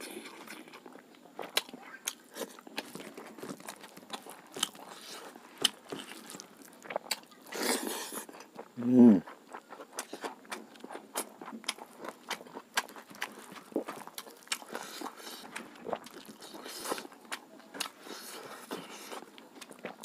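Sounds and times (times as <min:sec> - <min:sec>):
food crunching: 0:00.0 - 0:20.0
wet chewing and lip smacks: 0:00.0 - 0:20.0.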